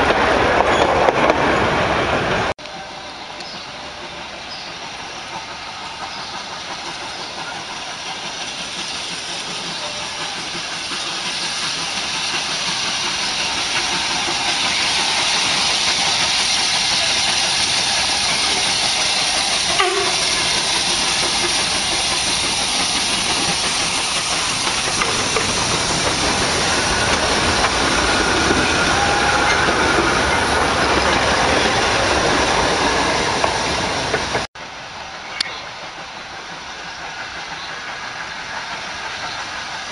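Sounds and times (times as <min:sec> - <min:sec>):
train wheels on rails: 0:00.0 - 0:39.9
steam hissing: 0:02.7 - 0:39.9.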